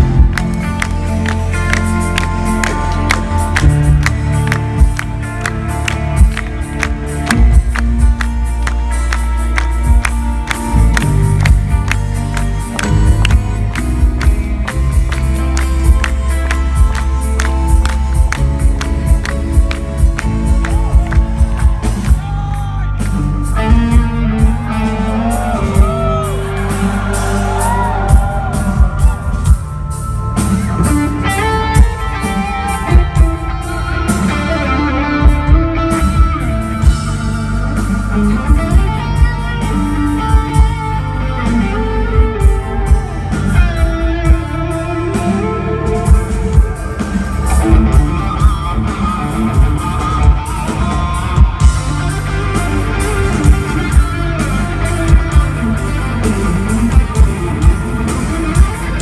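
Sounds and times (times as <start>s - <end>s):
electric guitar lead line: 0.0s - 59.0s
live metal band playing: 0.0s - 59.0s.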